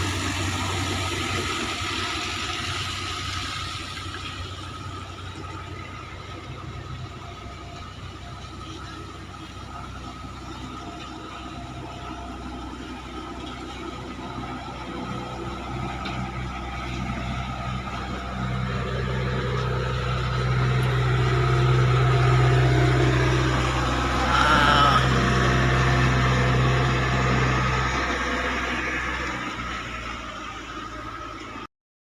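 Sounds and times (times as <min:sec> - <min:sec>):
river boat engine running: 0:00.0 - 0:31.7.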